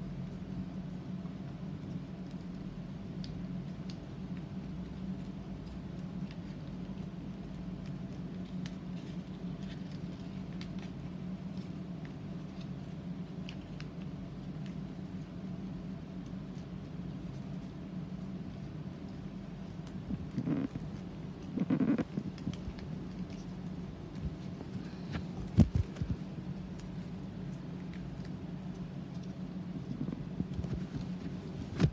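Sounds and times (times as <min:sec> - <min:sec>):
steady low hum: 0:00.0 - 0:31.9
paper being folded and creased: 0:05.6 - 0:31.9.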